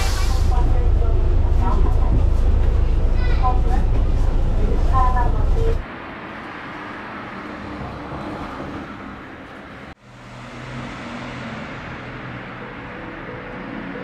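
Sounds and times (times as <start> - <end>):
rushing street noise: 0.0 - 14.0.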